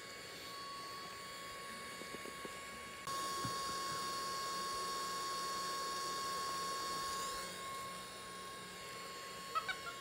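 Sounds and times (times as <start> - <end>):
fan motor whirring with whine: 0.0 - 10.0.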